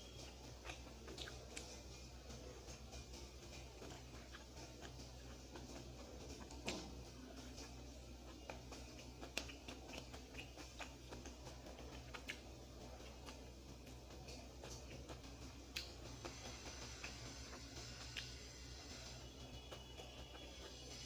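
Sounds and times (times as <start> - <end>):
low steady hum: 0.0 - 21.0
person chewing: 0.0 - 21.0.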